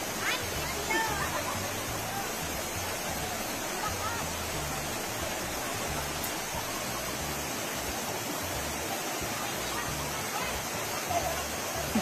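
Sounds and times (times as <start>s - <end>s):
river rapids rushing over rocks: 0.0s - 12.0s.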